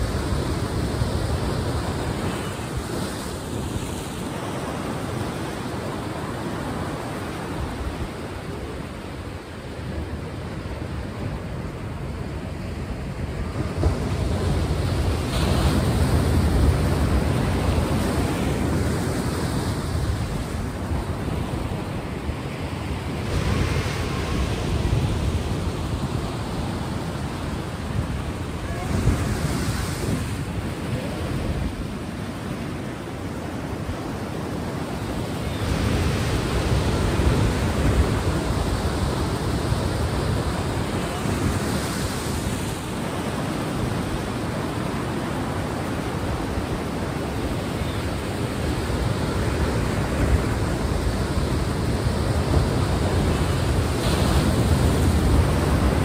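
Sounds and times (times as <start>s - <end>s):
sea waves on shore: 0.0s - 56.0s.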